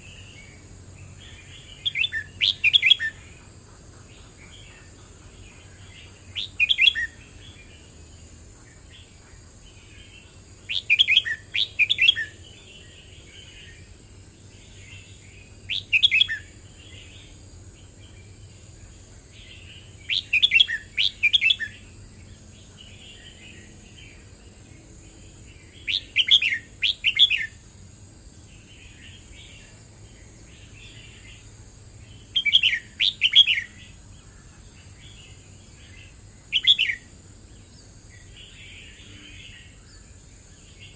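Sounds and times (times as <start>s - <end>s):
soft bird twittering: 0.0s - 27.6s, 28.5s - 40.9s
bird singing warbled phrases: 0.0s - 27.7s, 28.4s - 40.9s.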